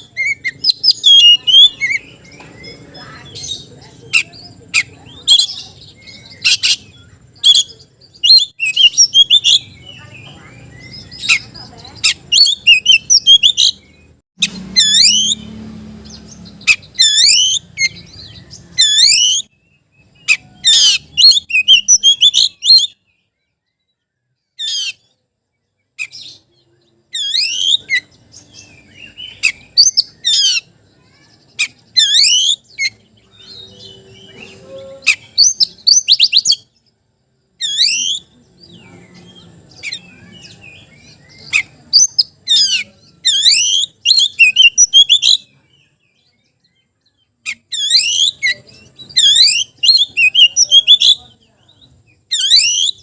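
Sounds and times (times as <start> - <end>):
bird whistling song: 0.0 - 37.0, 37.6 - 53.0.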